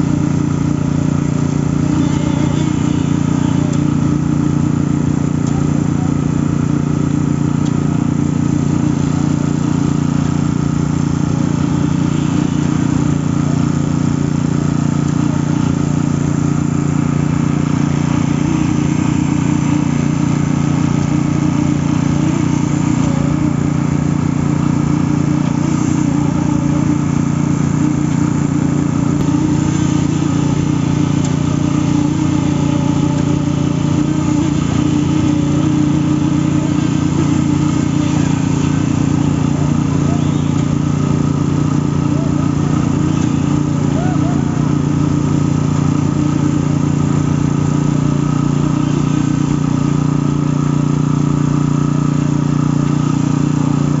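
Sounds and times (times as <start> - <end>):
machinery engine droning: 0.0 - 54.0.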